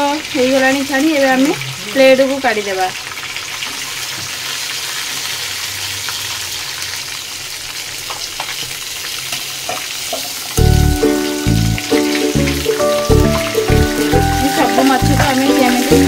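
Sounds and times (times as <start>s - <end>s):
fish sizzling in oil: 0.0s - 16.0s.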